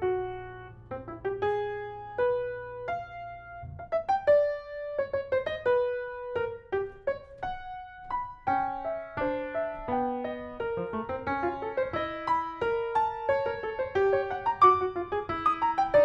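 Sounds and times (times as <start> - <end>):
grand piano playing: 0.0 - 16.0.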